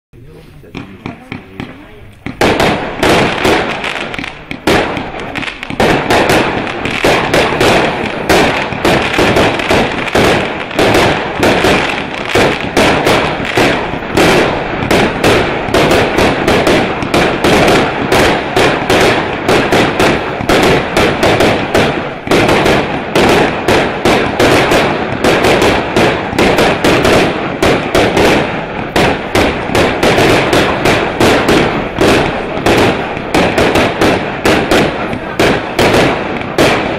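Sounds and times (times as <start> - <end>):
firework rocket barrage: 0.2 - 36.9.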